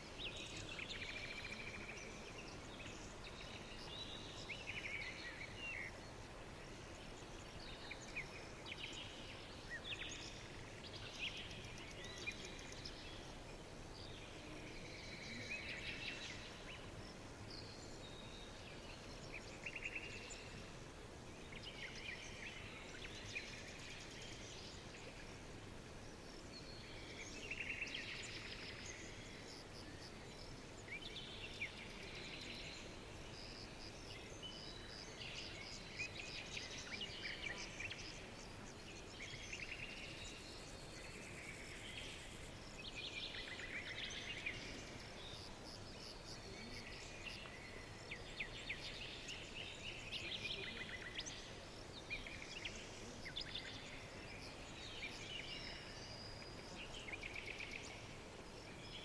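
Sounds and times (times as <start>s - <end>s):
soft background hiss: 0.0s - 59.0s
songbirds chirping and trilling: 0.0s - 59.0s.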